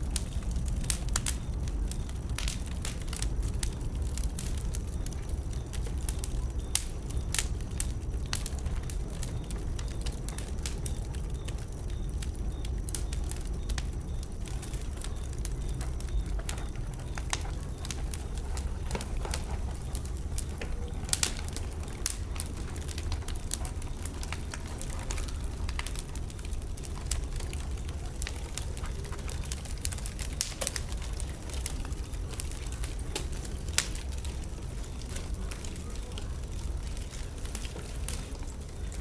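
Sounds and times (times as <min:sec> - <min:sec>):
bonfire pops and crackles: 0:00.0 - 0:39.0
fire low rumble: 0:00.0 - 0:39.0.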